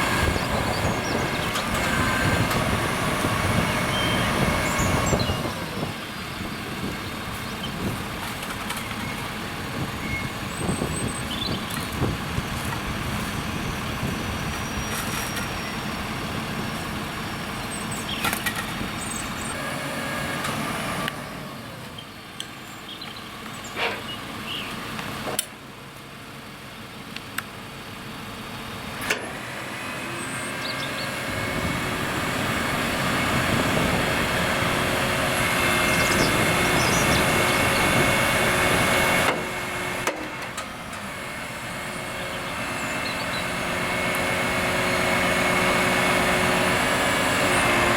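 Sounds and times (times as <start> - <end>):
hydraulic crane whine: 0.0 - 22.7, 28.0 - 47.9
truck engine running: 0.0 - 47.9.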